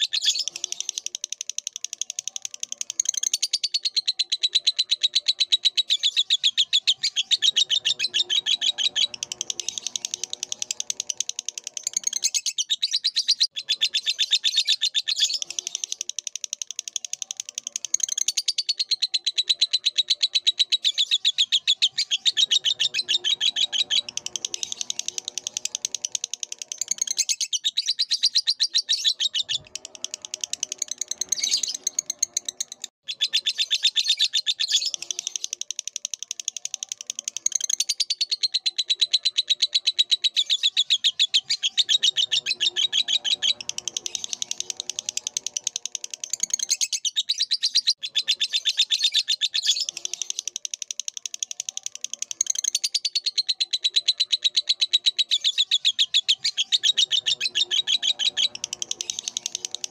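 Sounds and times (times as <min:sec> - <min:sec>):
lovebird chattering song: 0:00.0 - 0:59.9.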